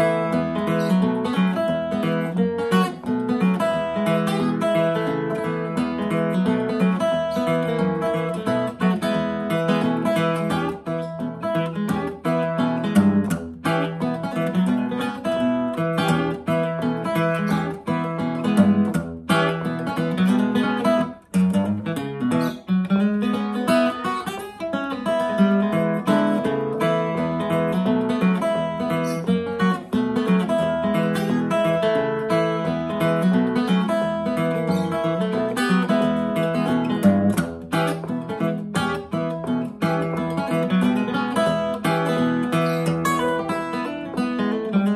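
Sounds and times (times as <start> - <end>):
fingerstyle acoustic guitar: 0.0 - 44.9.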